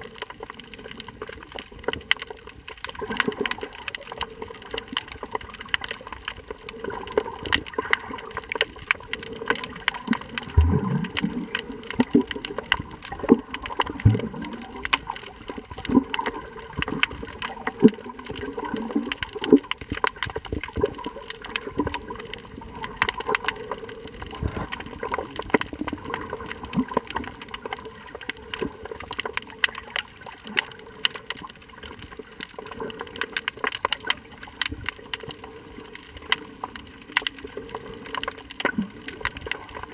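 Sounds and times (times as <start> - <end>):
underwater clicks and crackles: 0.0 - 39.9
underwater water noise: 0.0 - 39.9.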